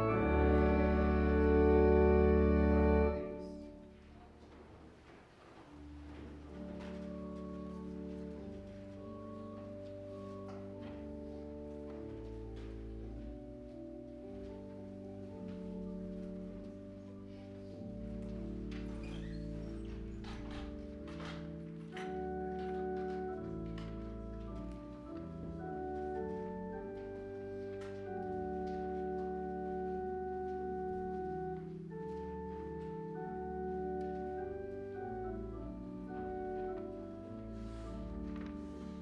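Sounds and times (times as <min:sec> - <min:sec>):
church organ playing a hymn: 0:00.0 - 0:04.1, 0:05.9 - 0:39.0.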